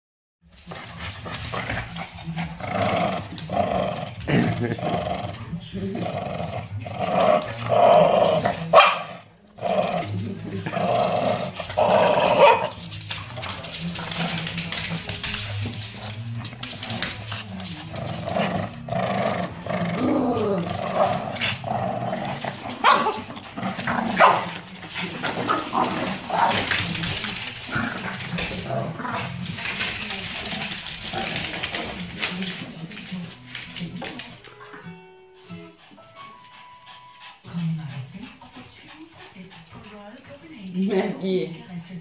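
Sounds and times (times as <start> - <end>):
dog growling: 0.6 - 35.6.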